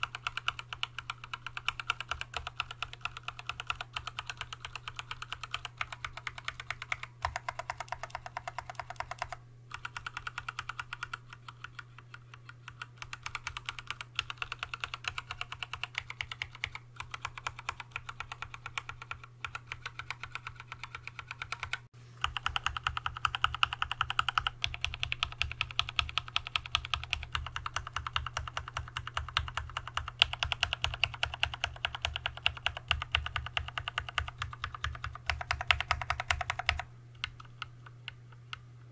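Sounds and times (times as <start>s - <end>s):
fast mechanical keyboard typing: 0.0s - 38.2s.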